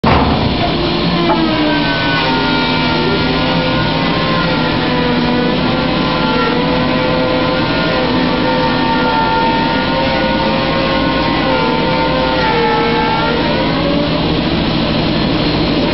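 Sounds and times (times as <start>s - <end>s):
wood-processing machinery running: 0.0s - 15.9s
motor whines: 0.4s - 15.9s.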